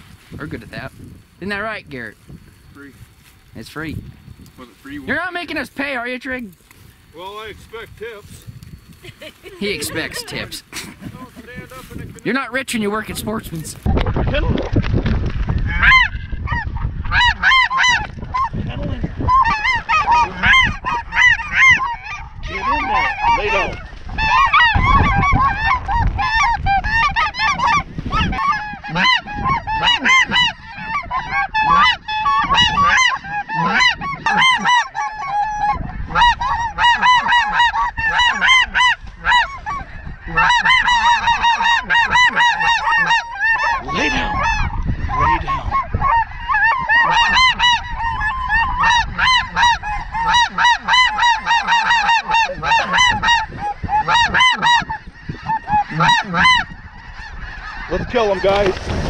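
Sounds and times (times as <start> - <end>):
geese honking: 9.3 - 13.8, 15.6 - 59.0.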